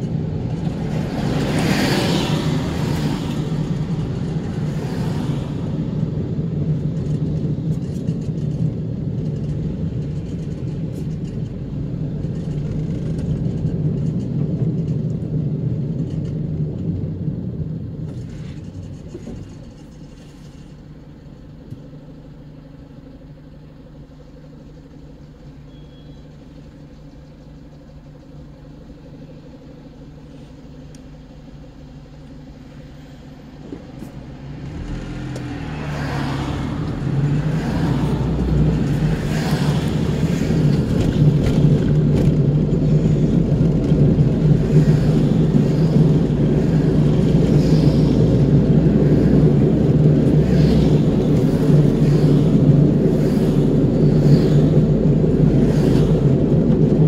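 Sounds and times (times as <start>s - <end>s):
vehicles passing: 0.0s - 16.3s, 26.4s - 57.0s
car engine and road noise: 0.0s - 57.0s.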